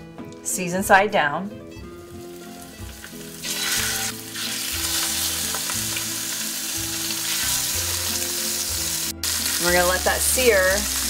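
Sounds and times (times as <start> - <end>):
chicken sizzling in oil: 2.0 - 11.0.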